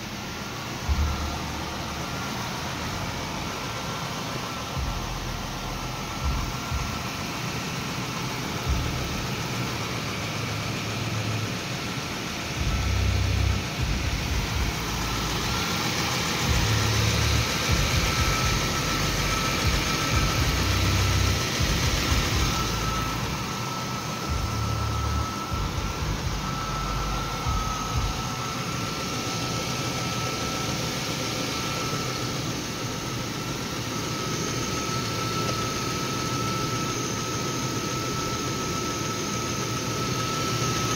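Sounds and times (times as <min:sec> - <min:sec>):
car engine idling: 0:00.0 - 0:40.9
thin steady high tone: 0:00.0 - 0:40.9.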